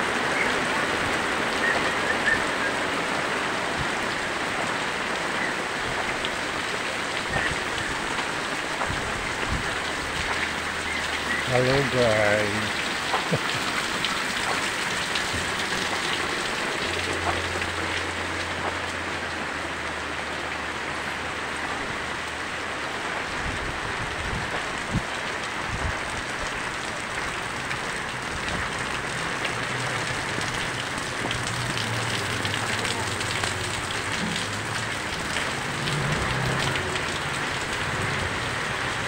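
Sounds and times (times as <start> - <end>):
heavy rain on roofs and pavement: 0.0 - 39.0.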